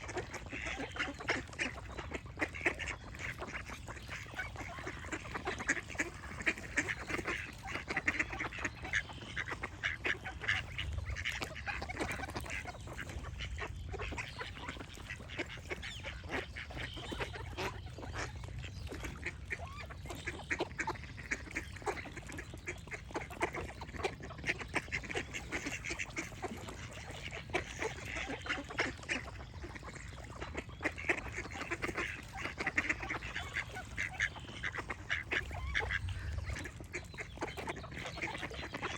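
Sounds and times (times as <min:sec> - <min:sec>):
ducks quacking: 0:00.0 - 0:38.9.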